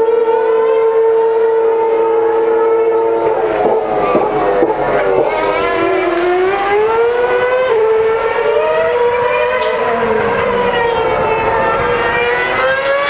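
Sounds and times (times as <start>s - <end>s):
racing car engine high revs: 0.0s - 13.0s.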